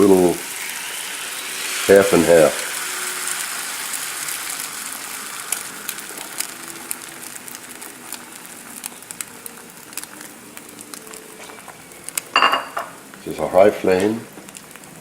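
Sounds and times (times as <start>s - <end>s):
eggs sizzling in a frying pan: 0.0s - 15.0s.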